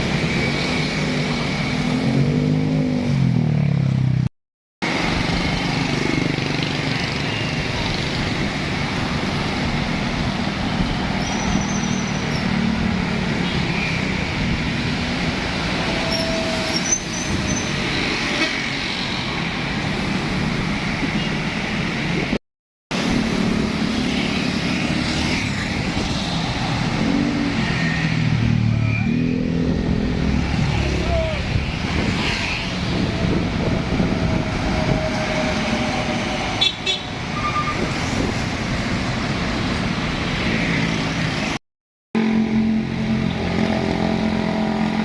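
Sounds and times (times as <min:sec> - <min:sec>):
traffic engine and tyre roar: 0:00.0 - 0:45.0.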